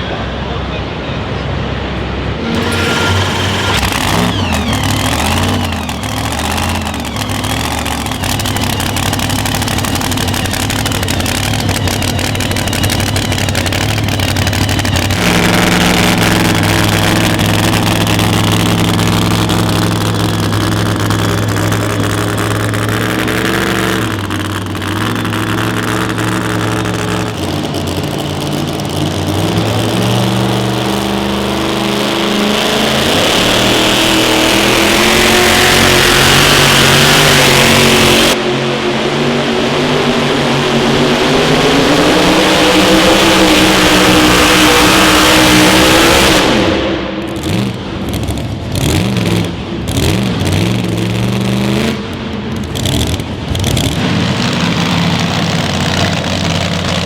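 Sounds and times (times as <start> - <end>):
pulling vehicle engine at high revs: 2.2 - 57.0.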